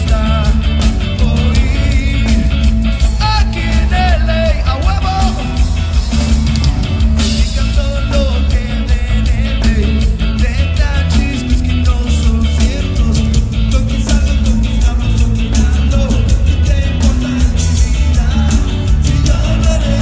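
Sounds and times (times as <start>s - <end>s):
bending lead guitar line: 0.0s - 20.0s
drum kit: 0.0s - 20.0s
live rock band playing: 0.0s - 20.0s.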